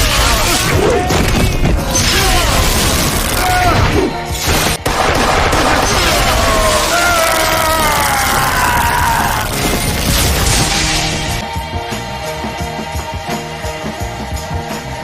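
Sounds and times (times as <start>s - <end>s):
action soundtrack music: 0.0s - 15.0s.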